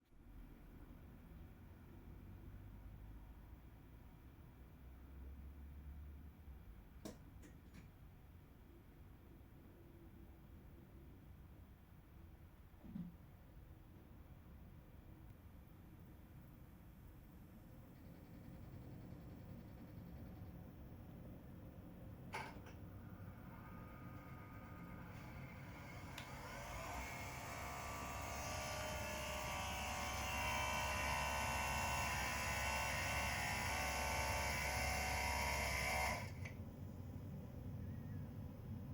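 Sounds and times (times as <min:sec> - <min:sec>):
faint air conditioning hum: 0:00.2 - 0:38.9.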